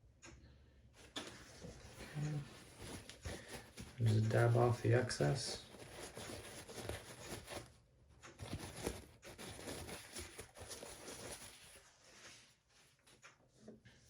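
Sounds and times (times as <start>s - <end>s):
faint rustling and light taps: 1.0s - 14.0s.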